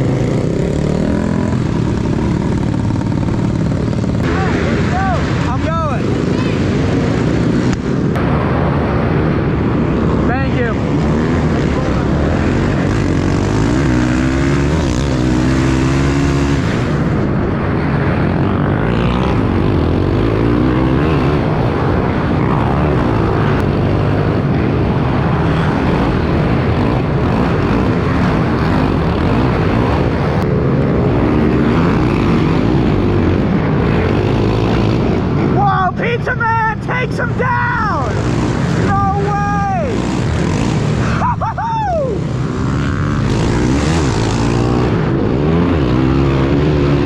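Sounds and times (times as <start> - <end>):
pit bike engines revving: 0.0 - 47.0.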